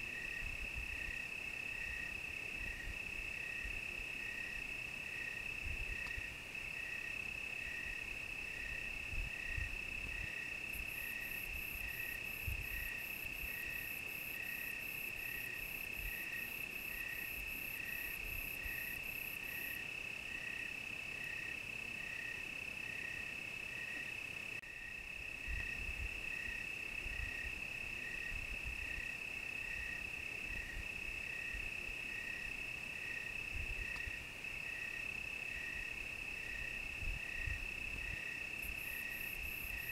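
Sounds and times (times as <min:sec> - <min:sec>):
cricket pulsing chirp: 0:00.0 - 0:39.9.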